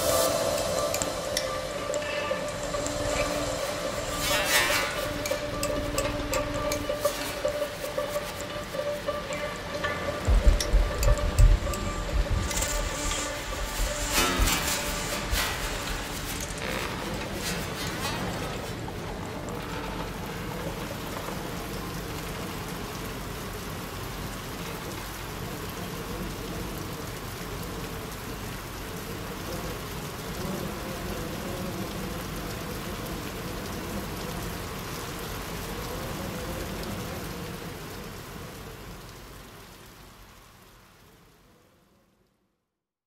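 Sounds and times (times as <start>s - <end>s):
rain-like hiss: 0.0s - 42.8s.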